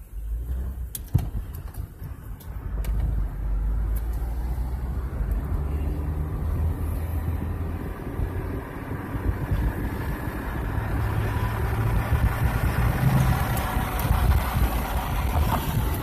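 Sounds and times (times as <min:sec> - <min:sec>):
car engine hum: 0:00.0 - 0:16.0
road rumble: 0:00.0 - 0:16.0.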